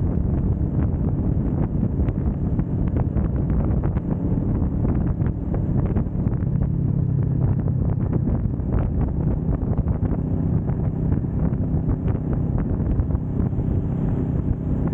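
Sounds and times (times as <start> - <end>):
motorcycle engine running: 0.0 - 14.9
wind buffeting microphone: 0.0 - 14.9.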